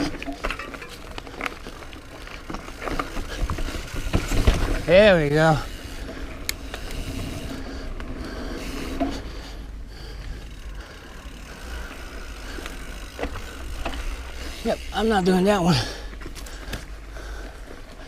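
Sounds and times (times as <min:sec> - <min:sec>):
bike drivetrain rattling and ticking: 0:00.0 - 0:18.0
bike tyres on dirt: 0:00.0 - 0:18.0.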